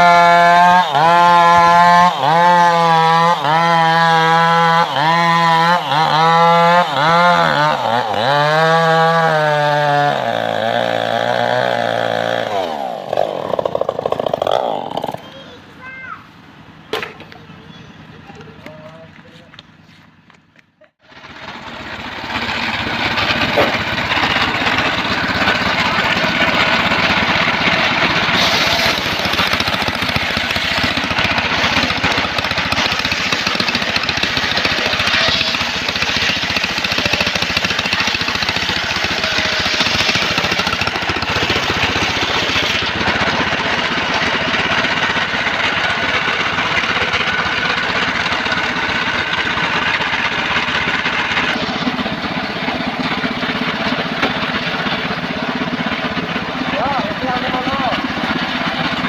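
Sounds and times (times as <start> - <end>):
portable sawmill running: 0.0 - 59.0.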